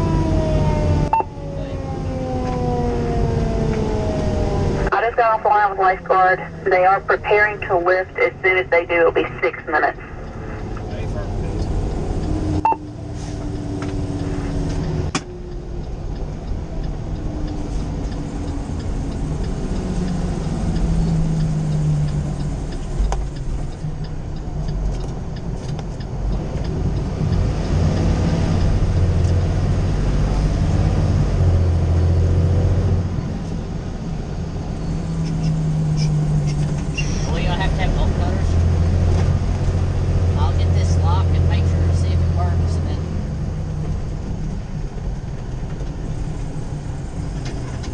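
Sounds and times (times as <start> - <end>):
fire engine diesel engine: 0.0 - 47.9.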